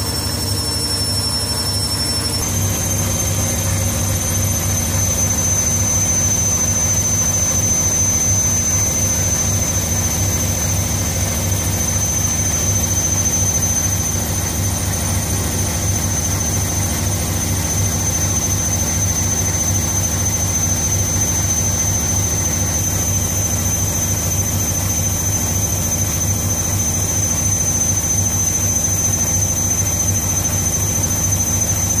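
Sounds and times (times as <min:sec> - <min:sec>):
washing machine spinning: 0:00.0 - 0:32.0.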